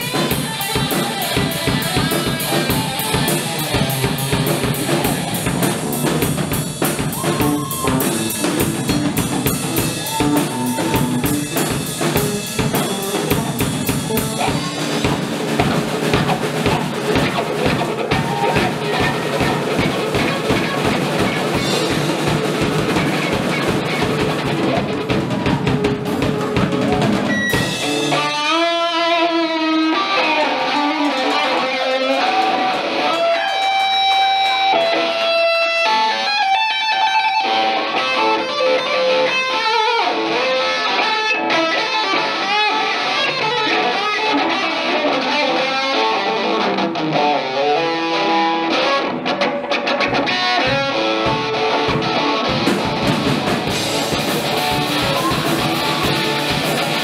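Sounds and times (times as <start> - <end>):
lead guitar with bent notes: 0.0 - 57.0
live funk rock band playing: 0.0 - 57.0.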